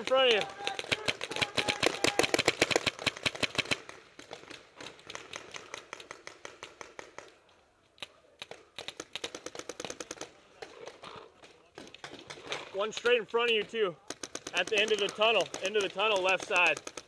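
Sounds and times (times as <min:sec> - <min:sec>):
paintball markers firing: 0:00.0 - 0:17.0.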